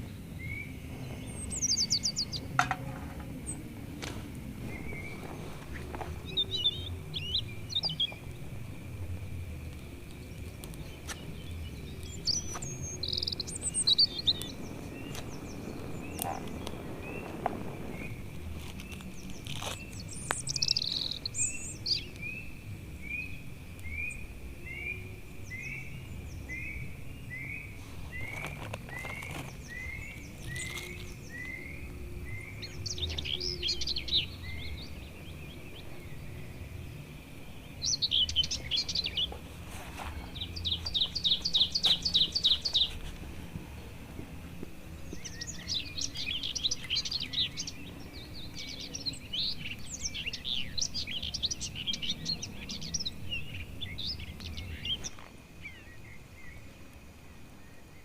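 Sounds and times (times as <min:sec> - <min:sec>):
birds chattering song: 0:00.0 - 0:58.0.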